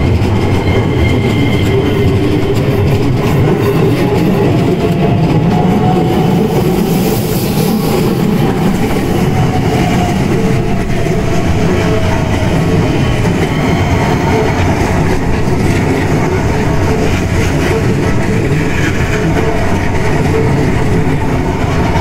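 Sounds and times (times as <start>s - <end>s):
electric trains passing: 0.0s - 22.0s
wheels on rails: 0.0s - 22.0s.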